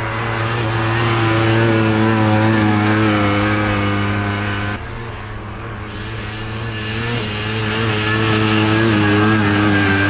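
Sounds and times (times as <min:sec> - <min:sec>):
snowmobile engine revving high: 0:00.0 - 0:10.0.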